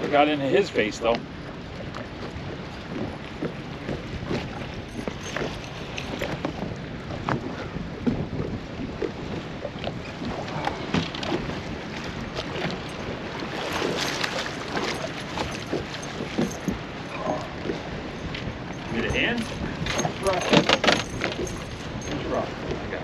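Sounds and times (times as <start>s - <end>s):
water slapping against boat hull: 0.0s - 23.0s
wind buffeting microphone: 0.0s - 23.0s.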